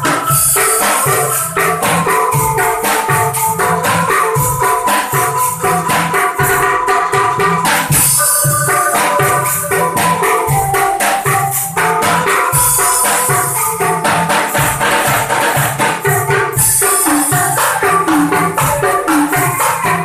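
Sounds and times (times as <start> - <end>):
bamboo xylophone: 0.0 - 20.0
bass drum beat: 0.0 - 20.0
cymbals: 0.0 - 20.0.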